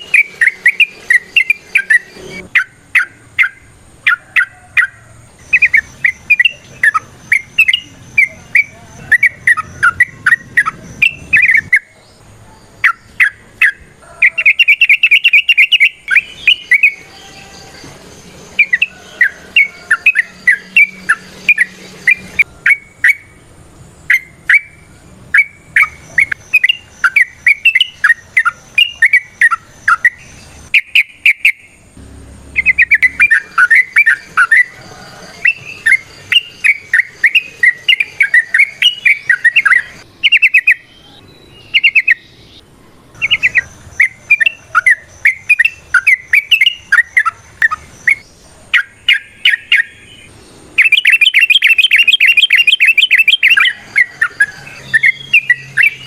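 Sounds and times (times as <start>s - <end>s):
bird singing chattering phrases: 0.0s - 56.0s.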